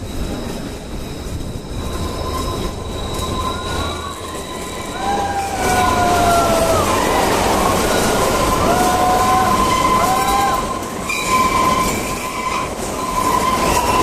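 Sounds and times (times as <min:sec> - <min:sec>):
train rumbling: 0:00.0 - 0:14.0
train wheels squealing: 0:00.0 - 0:14.0.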